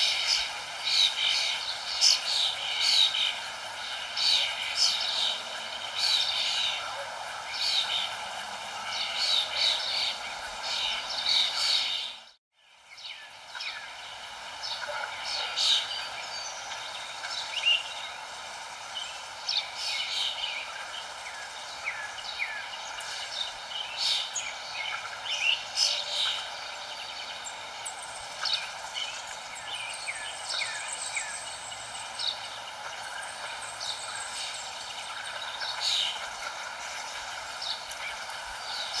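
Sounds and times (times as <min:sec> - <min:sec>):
birds chirping and calling: 0:00.0 - 0:12.3, 0:13.0 - 0:39.0
steady background hiss: 0:00.0 - 0:39.0.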